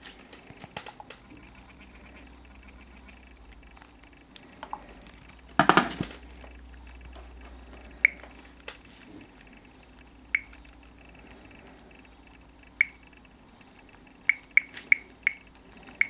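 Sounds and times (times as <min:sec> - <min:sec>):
hard objects clicking and clattering: 0:00.0 - 0:14.2
faint low hum: 0:00.0 - 0:16.0.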